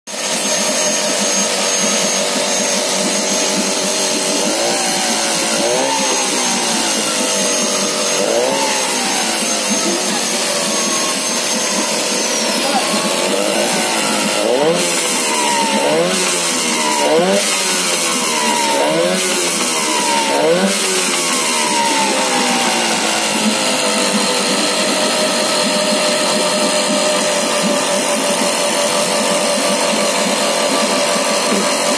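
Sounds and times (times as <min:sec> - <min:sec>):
outboard motor revving: 0:00.1 - 0:31.9.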